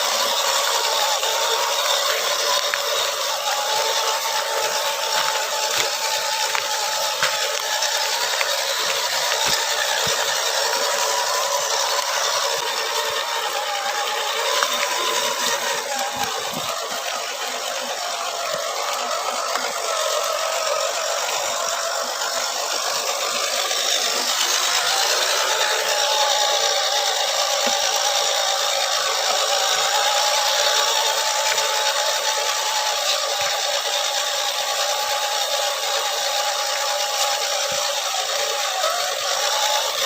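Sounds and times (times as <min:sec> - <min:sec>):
toy car electric motor whining: 0:00.0 - 0:40.0.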